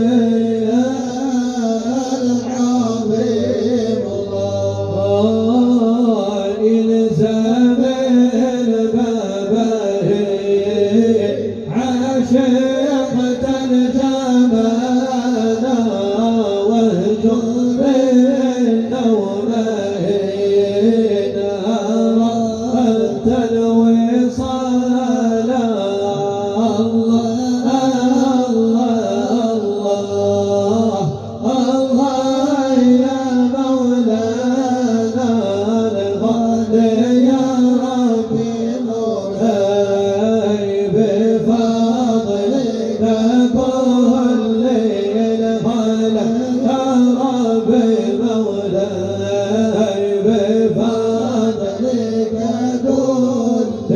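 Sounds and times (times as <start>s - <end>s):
men chanting devotional song: 0.0s - 53.9s.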